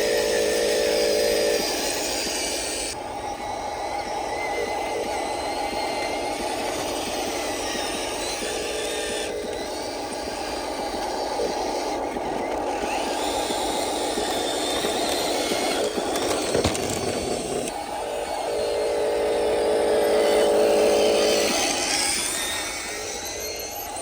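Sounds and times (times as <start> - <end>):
model truck motor whining: 0.0 - 24.0
wheels scraping on ground: 0.0 - 24.0.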